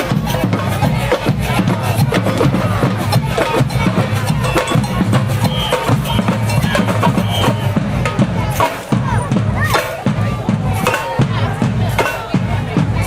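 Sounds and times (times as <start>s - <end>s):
bass drums: 0.0s - 13.0s
snare drums: 0.0s - 13.0s
wood-block percussion: 0.0s - 13.0s.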